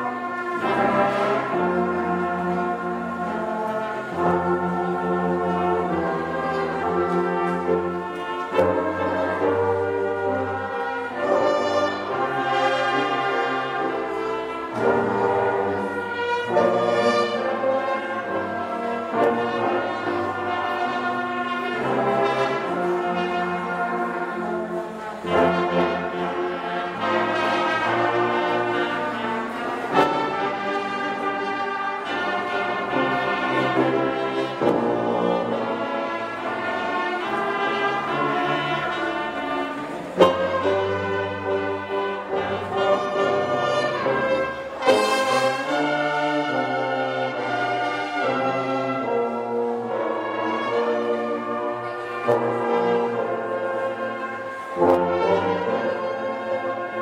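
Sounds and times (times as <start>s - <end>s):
low brass bass line: 0.0s - 57.0s
trombone choir playing chords: 0.0s - 57.0s.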